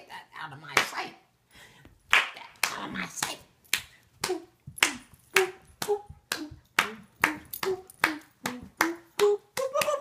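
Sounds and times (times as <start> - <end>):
hands clapping in rhythm: 0.8 - 1.1, 2.1 - 10.0.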